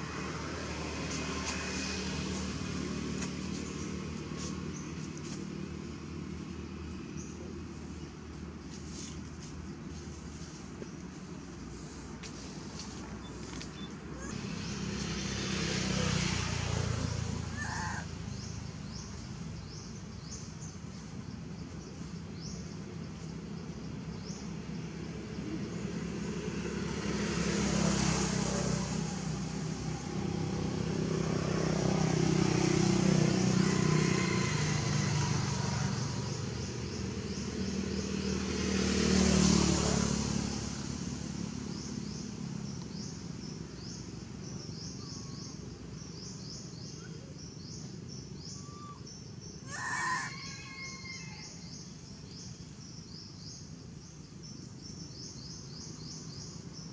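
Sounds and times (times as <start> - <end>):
vehicle engine passing: 0.0 - 21.0, 22.1 - 47.0.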